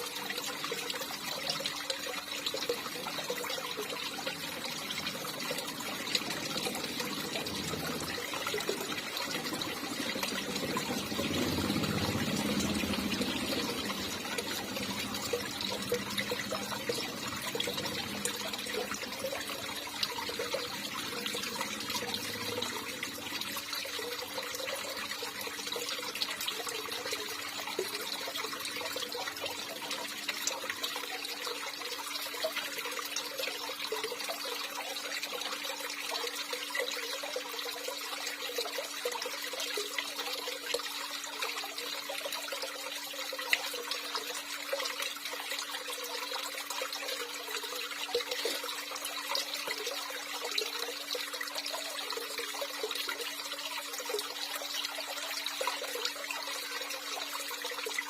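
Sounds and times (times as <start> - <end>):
water running and trickling: 0.0 - 58.0.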